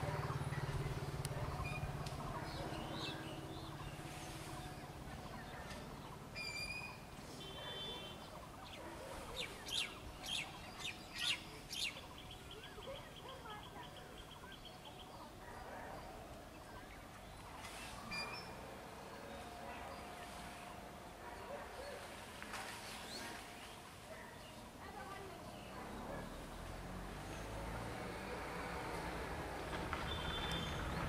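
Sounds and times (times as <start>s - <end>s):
birds chirping and trilling: 0.0s - 27.6s.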